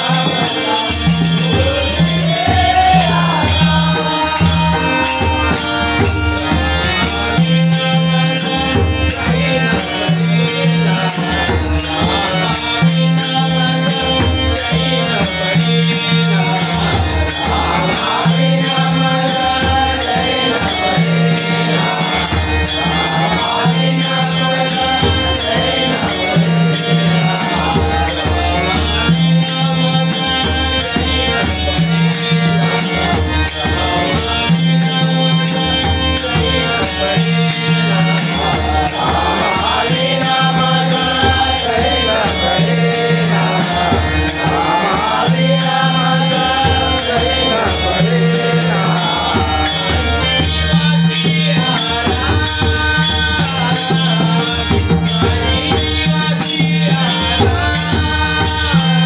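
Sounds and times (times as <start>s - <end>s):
jingling small percussion: 0.0s - 59.0s
man singing: 0.0s - 59.0s.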